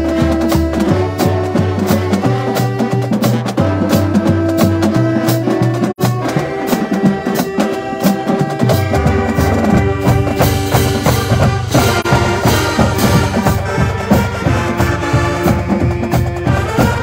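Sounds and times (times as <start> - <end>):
marching band playing: 0.0 - 17.0
steady drum beat: 0.0 - 17.0.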